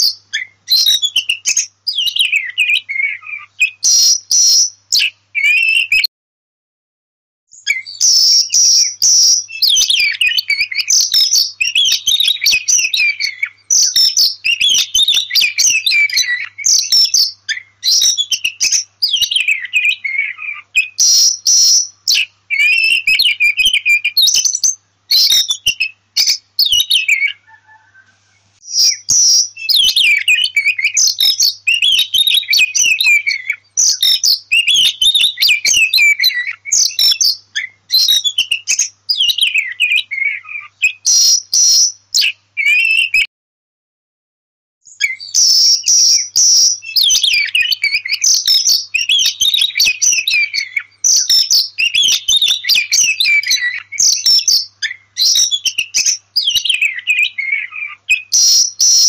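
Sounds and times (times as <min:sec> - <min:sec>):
bird singing whistled phrases: 0:00.0 - 0:06.1, 0:07.5 - 0:43.3, 0:44.8 - 0:59.0.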